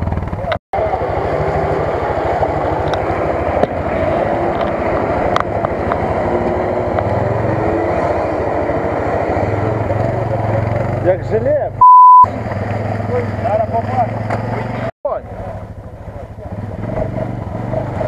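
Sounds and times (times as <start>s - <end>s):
vehicle engine under load: 0.0s - 18.0s.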